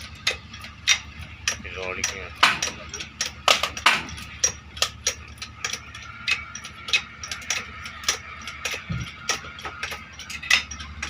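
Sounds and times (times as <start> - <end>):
low steady hum: 0.0 - 11.0
sharp irregular clicks: 0.0 - 11.0.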